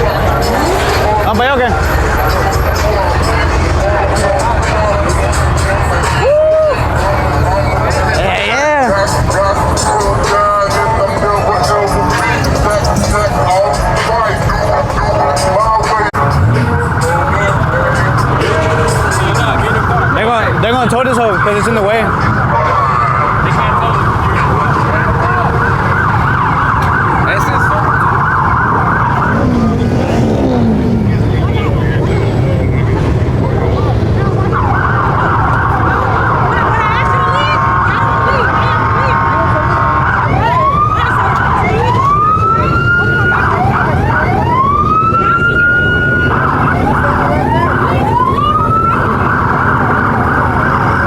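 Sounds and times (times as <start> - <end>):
police siren yelping: 0.0 - 51.0.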